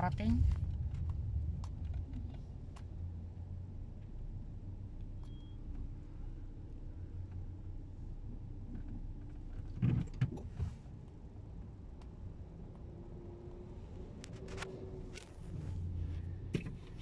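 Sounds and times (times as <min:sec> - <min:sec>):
car rumble inside cabin: 0:00.0 - 0:17.0.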